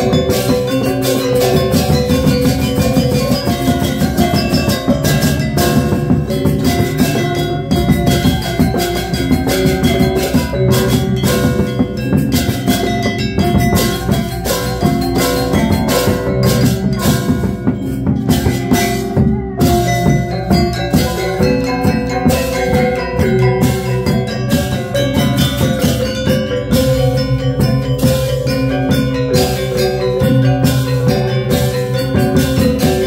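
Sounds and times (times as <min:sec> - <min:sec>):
drums: 0:00.0 - 0:33.0
gongs and metallophones ringing: 0:00.0 - 0:33.0.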